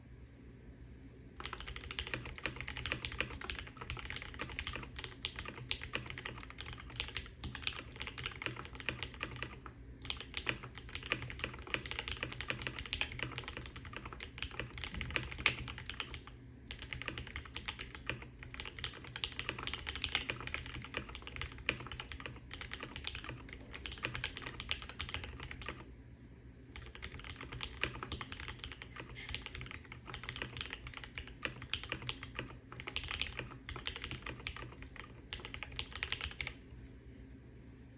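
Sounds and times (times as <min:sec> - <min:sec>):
mechanical keyboard typing: 0:01.4 - 0:25.8, 0:26.8 - 0:36.6.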